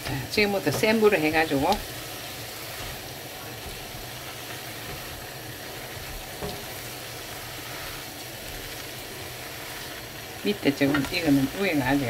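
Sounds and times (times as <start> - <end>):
spatulas stirring in a pan: 0.0 - 12.0
vegetables sizzling in a frying pan: 0.0 - 12.0.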